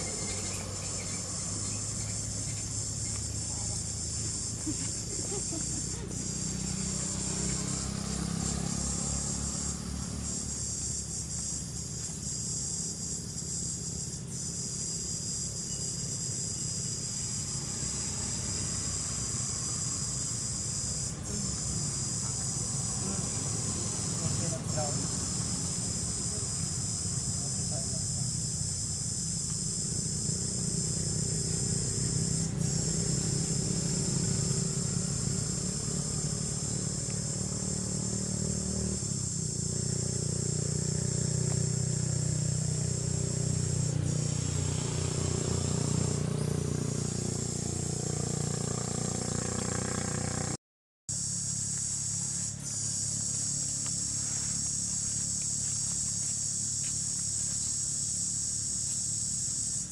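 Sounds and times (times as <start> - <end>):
high-pitched insect chorus: 0.0 - 50.5, 51.1 - 59.9.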